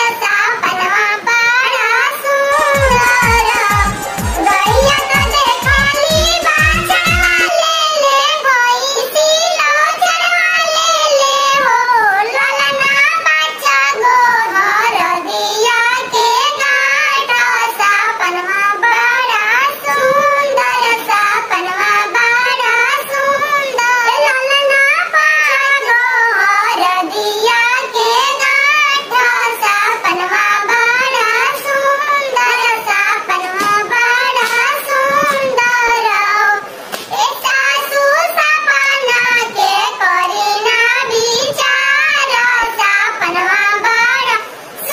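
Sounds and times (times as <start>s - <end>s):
high-pitched cartoon voice singing: 0.0s - 36.6s.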